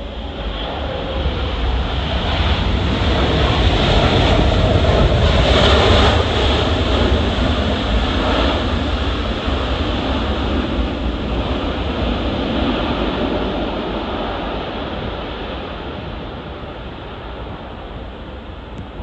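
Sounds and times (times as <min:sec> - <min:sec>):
jet airliner passing: 0:00.0 - 0:19.0.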